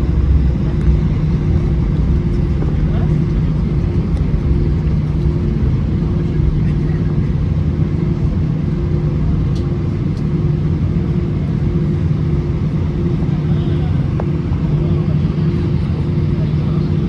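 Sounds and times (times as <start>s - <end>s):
jet engines humming in cabin: 0.0s - 17.0s.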